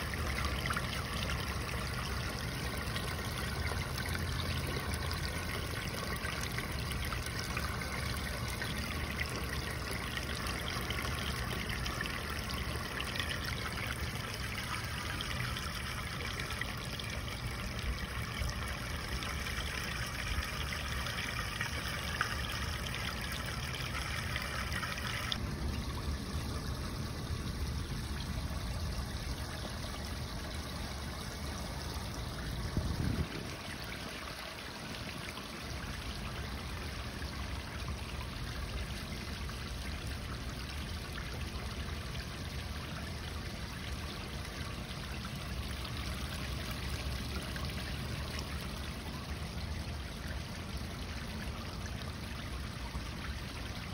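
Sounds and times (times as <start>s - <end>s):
water gushing into a floor drain: 0.0s - 53.9s.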